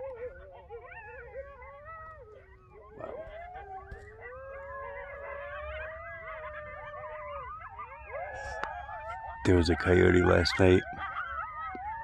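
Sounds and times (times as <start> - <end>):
coyotes howling and yipping: 0.0 - 12.0.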